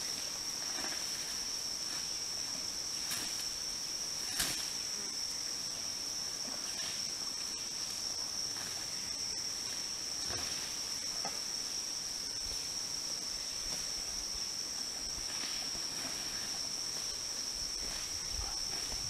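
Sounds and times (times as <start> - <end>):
forest insects droning: 0.0 - 19.0.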